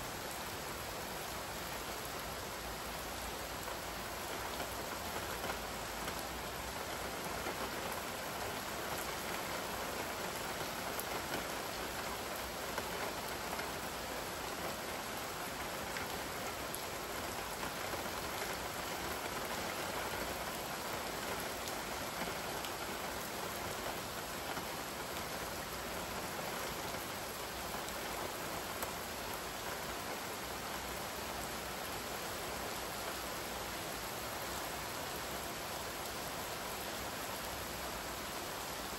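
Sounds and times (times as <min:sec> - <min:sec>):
steady rain on wet ground: 0:00.0 - 0:38.9.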